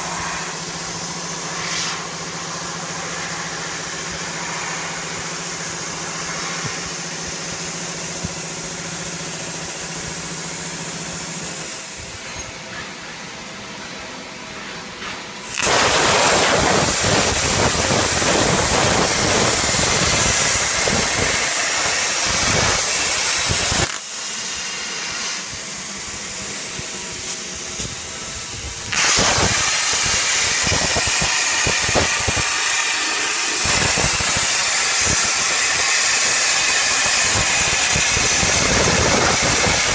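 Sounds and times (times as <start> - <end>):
plasma torch arc hissing: 0.0 - 12.5, 15.4 - 39.9.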